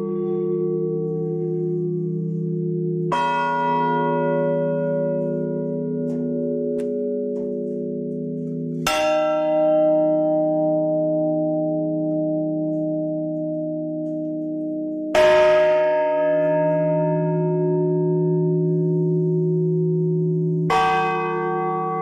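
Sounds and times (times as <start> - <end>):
church bell tolling: 0.0 - 22.0.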